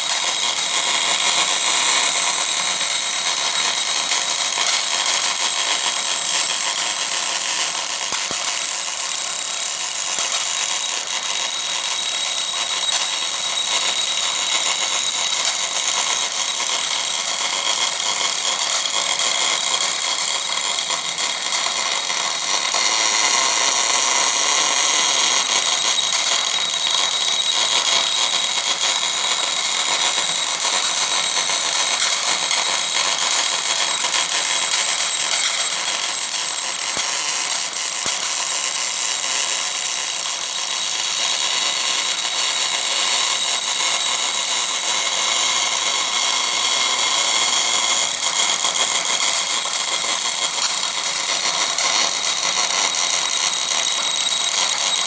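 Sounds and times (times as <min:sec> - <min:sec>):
welding arc hissing and crackling: 0:00.0 - 0:55.0.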